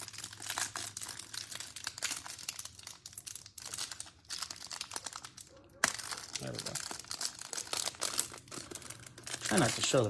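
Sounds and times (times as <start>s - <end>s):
plastic wrap crinkling and tearing: 0.0s - 10.0s.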